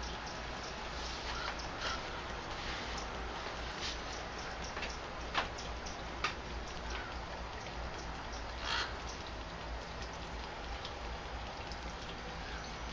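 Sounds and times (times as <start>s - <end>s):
steady outdoor hiss: 0.0s - 12.9s.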